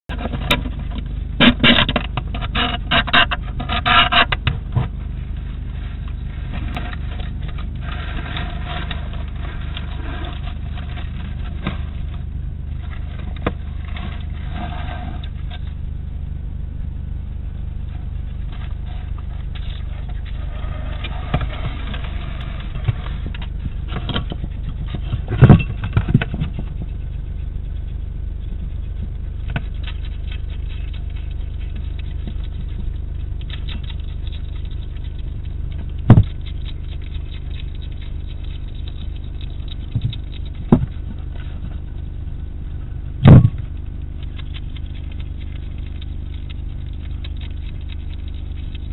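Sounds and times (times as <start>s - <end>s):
hedgehog rustling and scratching: 0.1s - 15.8s, 17.8s - 48.9s
low microphone hum: 0.1s - 48.9s.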